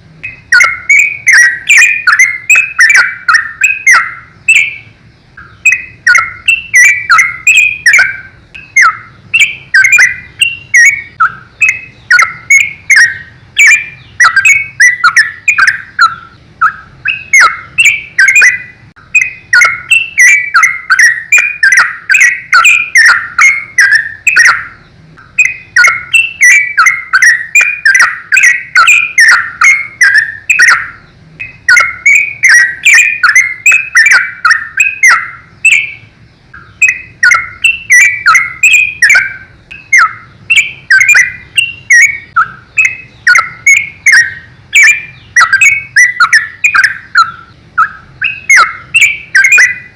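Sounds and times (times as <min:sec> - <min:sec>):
bulbul singing: 0:00.0 - 0:49.9.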